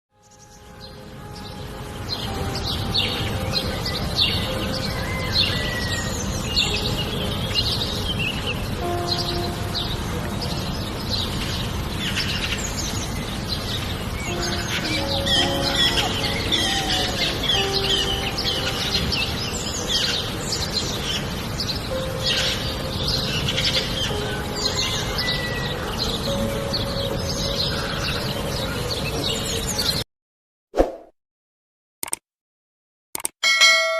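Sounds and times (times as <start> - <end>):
small birds chirping: 0.2 - 30.0
rumble of falling water: 1.1 - 28.8.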